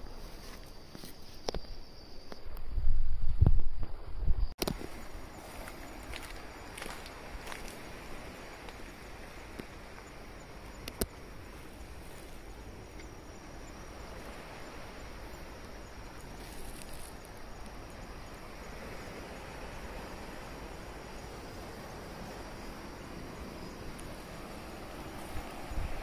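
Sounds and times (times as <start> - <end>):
faint insect chirping: 0.0 - 26.0.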